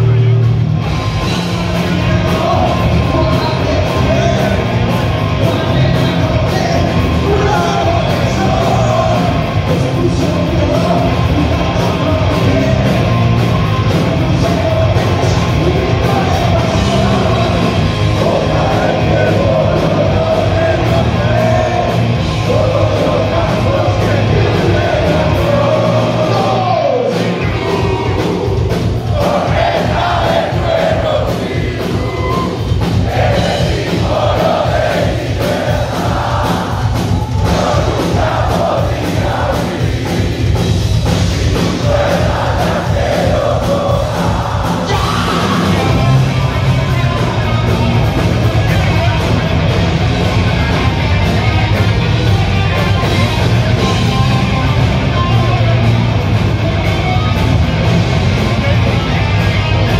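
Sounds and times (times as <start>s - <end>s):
crowd yelling and singing along: 0.0s - 59.9s
live heavy rock band: 0.0s - 59.9s.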